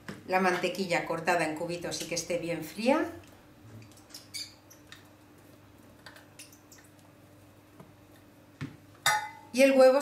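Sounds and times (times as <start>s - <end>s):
faint room hum: 0.0s - 10.0s.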